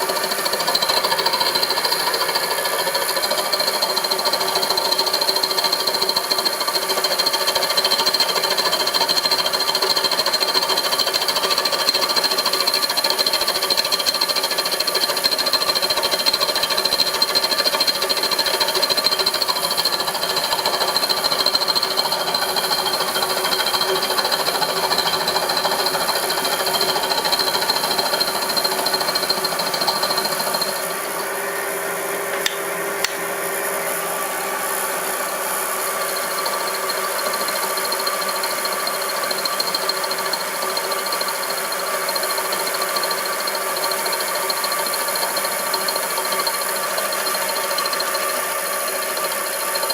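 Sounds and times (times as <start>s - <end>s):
milling machine whining: 0.0s - 49.9s.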